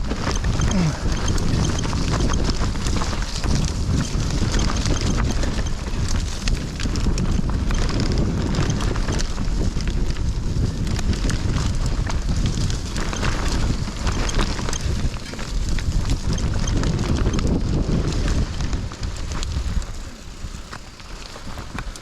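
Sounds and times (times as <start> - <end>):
bike tyres and frame clattering: 0.0 - 22.0
wind buffeting microphone: 0.0 - 22.0.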